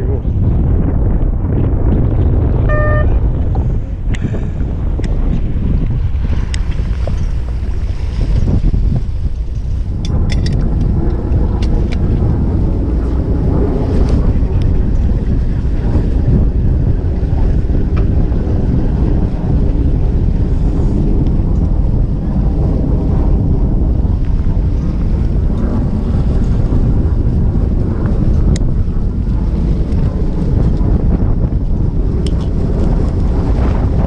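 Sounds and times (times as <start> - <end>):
sea washing against hull: 0.0 - 34.0
wind buffeting microphone: 0.0 - 34.0.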